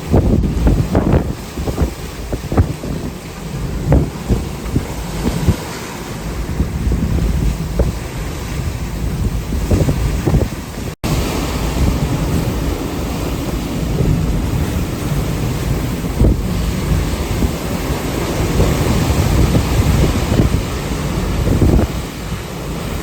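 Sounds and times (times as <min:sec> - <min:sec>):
strong gusting wind on microphone: 0:00.0 - 0:23.0.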